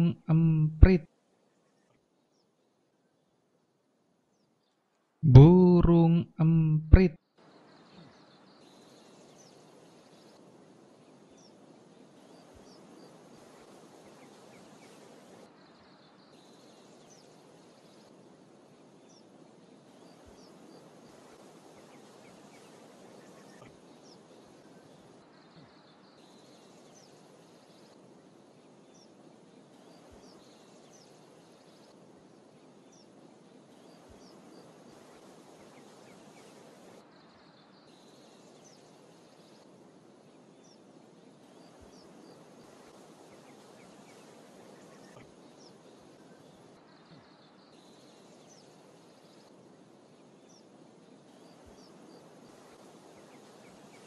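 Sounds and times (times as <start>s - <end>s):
steady hiss: 6.9s - 54.0s.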